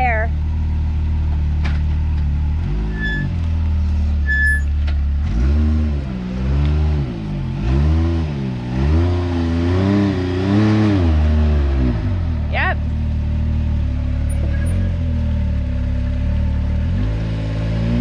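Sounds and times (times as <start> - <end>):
utility vehicle engine revving: 0.4 - 18.0.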